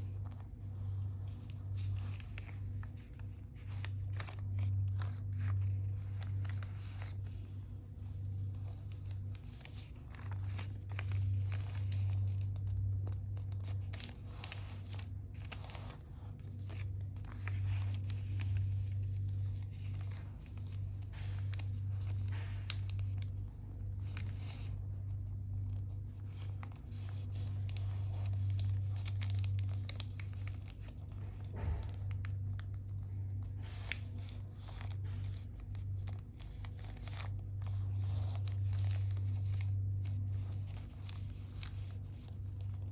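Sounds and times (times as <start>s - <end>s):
low steady hum: 0.0s - 42.9s
paper being folded and creased: 0.0s - 42.9s.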